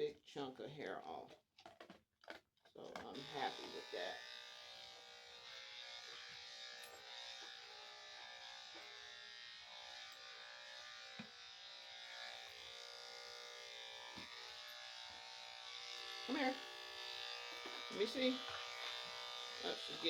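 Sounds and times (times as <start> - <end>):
electric clippers buzzing: 3.1 - 20.0.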